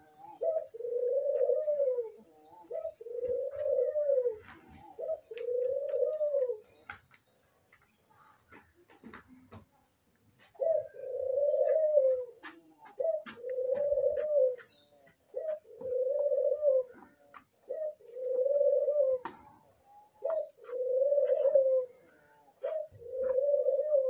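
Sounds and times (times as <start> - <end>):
dove cooing: 0.0 - 7.1, 10.4 - 24.0.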